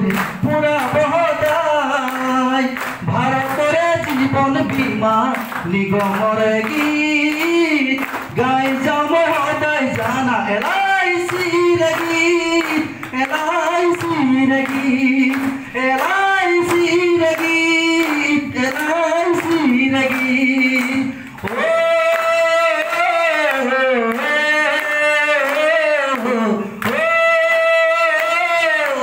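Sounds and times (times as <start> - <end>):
audience clapping along: 0.0 - 29.0
man singing into microphone: 0.0 - 29.0.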